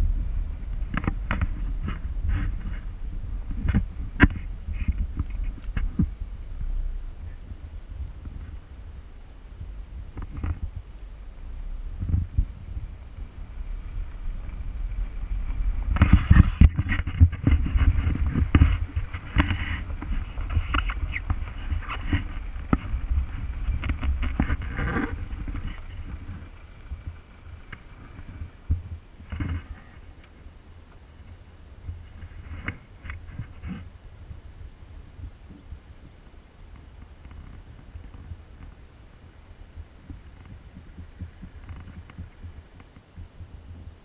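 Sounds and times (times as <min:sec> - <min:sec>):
low engine rumble: 0:00.0 - 0:44.0.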